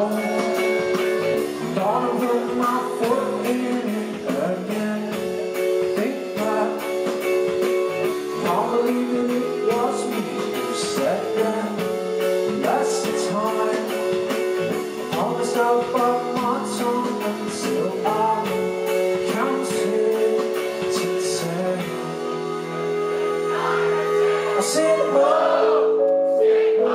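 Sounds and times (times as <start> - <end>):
lead singer singing: 0.0 - 26.9
rock band playing live: 0.0 - 26.9.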